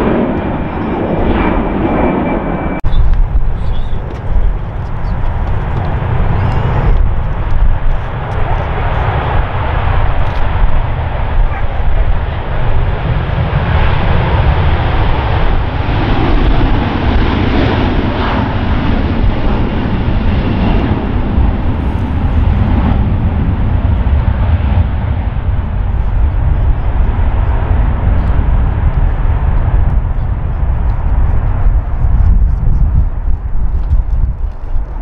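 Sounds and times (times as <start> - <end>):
jet engines at takeoff thrust: 0.0 - 35.0.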